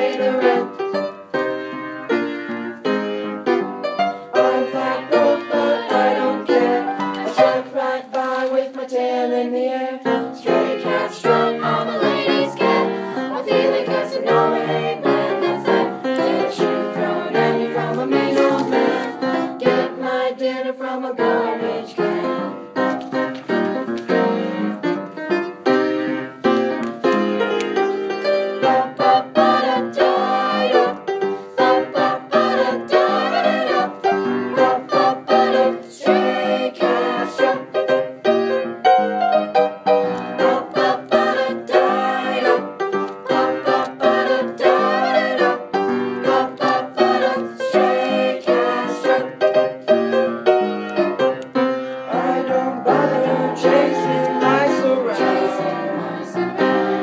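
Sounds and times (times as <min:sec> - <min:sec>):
jazz choir with piano: 0:00.0 - 0:57.0.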